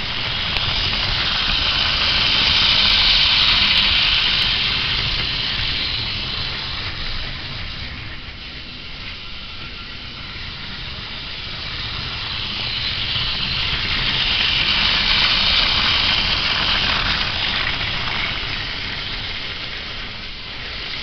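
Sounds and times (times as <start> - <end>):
toy train motor whirring: 0.0 - 21.0.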